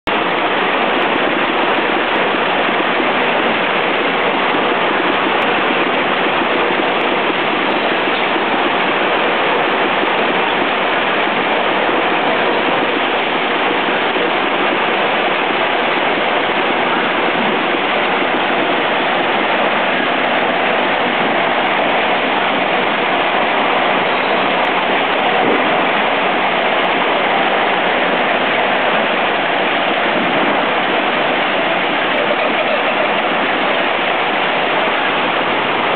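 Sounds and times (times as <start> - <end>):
capping machine running: 0.1 - 35.9.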